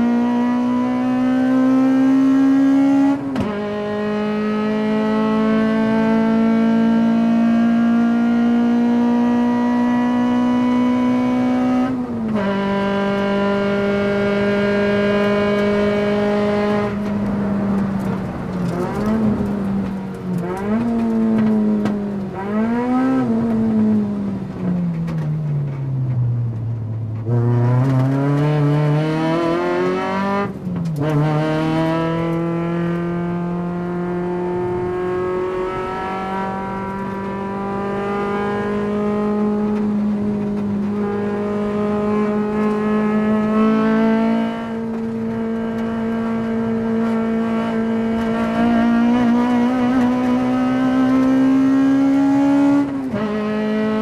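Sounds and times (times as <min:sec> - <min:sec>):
car engine revving at high revs: 0:00.0 - 0:54.0.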